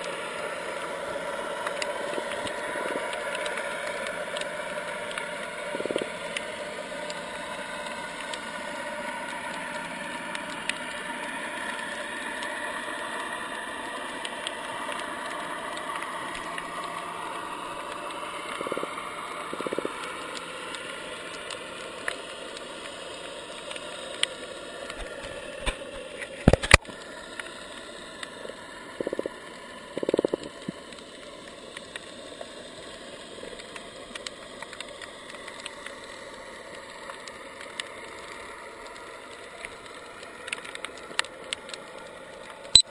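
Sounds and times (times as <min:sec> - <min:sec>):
underwater noise: 0:00.0 - 0:42.9.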